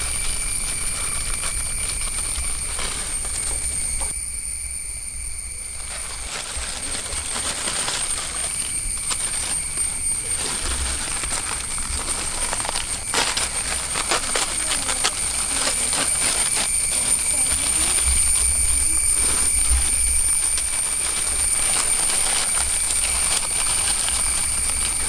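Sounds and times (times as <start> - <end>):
plastic wrappers crinkling and tearing: 0.0 - 4.2, 5.8 - 25.0.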